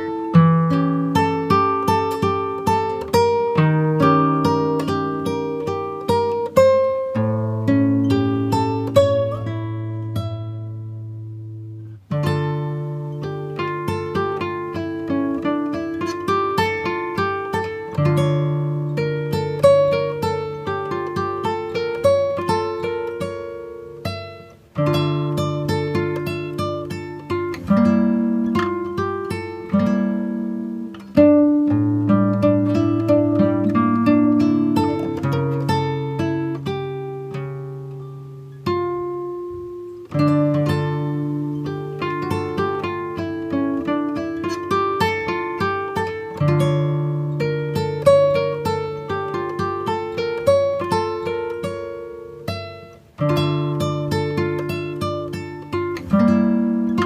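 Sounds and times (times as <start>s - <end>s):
acoustic guitar picking: 0.0s - 57.0s.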